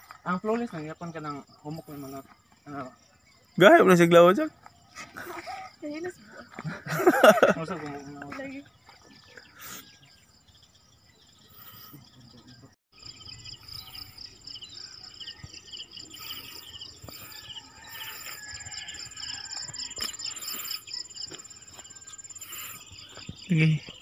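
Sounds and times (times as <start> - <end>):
birds chirping: 0.0 - 24.0
insects trilling: 0.0 - 24.0.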